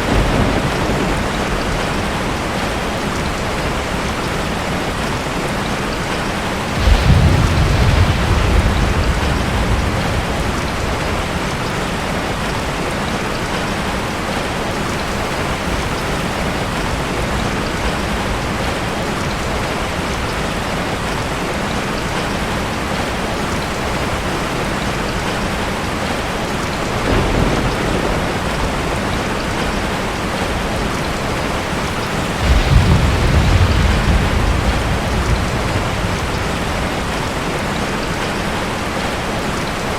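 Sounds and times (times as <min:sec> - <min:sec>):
thunder rumbling: 0:00.0 - 0:21.1, 0:22.0 - 0:39.9
steady rain: 0:00.0 - 0:39.9.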